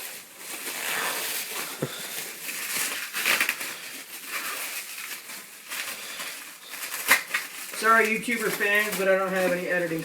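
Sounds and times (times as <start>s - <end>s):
paper and wrapping rustling: 0.0s - 10.0s.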